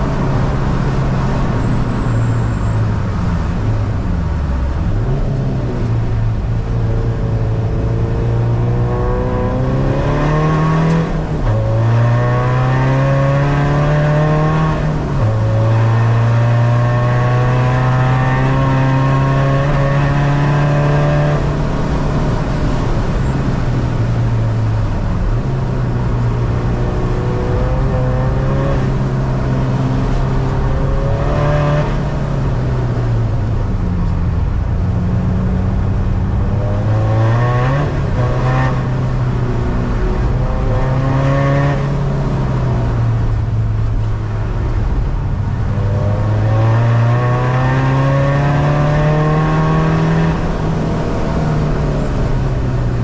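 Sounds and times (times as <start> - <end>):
car engine revving: 0.0 - 53.0
tyre and road noise: 0.0 - 53.0.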